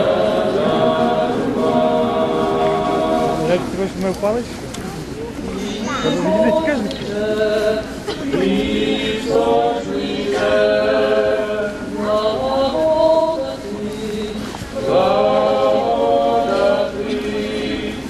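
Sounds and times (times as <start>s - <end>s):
choir singing a hymn: 0.0s - 4.0s, 5.4s - 18.0s.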